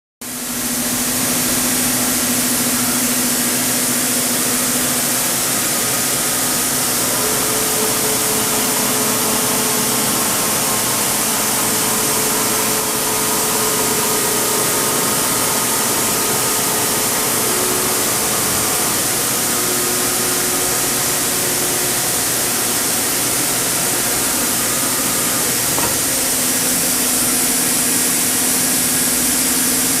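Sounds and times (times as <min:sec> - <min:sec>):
turning machine running hiss: 0:00.2 - 0:30.0.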